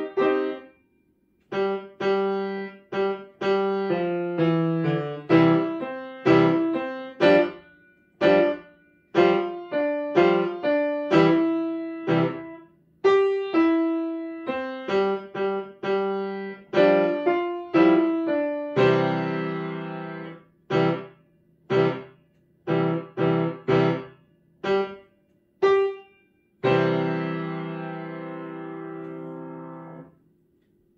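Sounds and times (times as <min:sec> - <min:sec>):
grand piano chords: 0:00.0 - 0:30.3.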